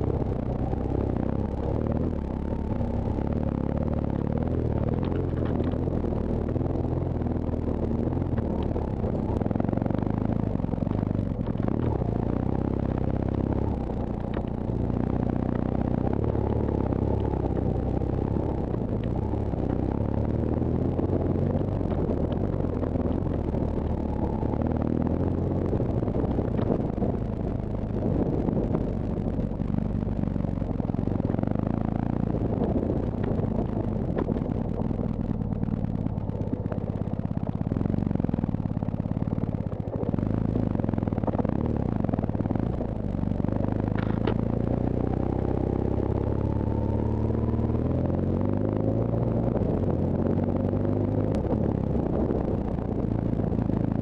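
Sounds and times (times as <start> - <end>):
knocks and rattles from motorcycle: 0.0 - 47.0
motorcycle engine running: 0.0 - 54.0
wind noise: 0.0 - 54.0.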